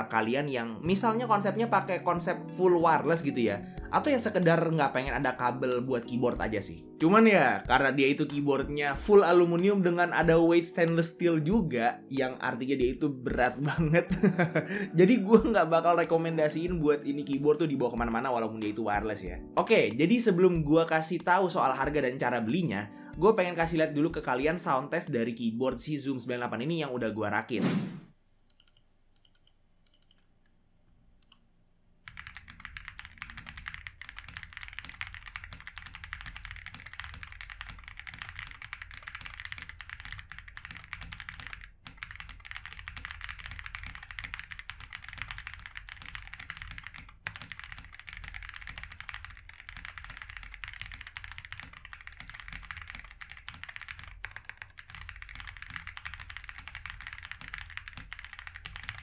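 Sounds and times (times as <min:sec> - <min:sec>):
fast mechanical keyboard typing: 0:00.0 - 0:11.1, 0:15.3 - 0:24.8, 0:32.1 - 0:59.0.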